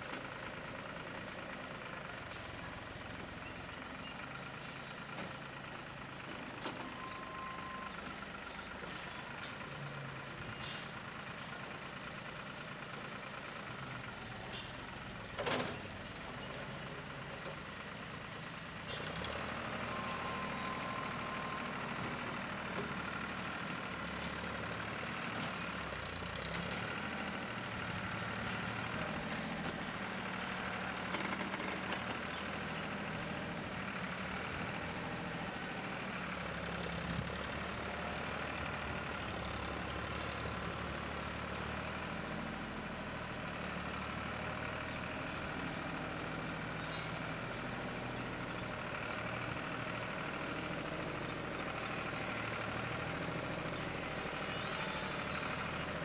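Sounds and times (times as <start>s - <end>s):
tractor engine running: 10.9s - 56.0s.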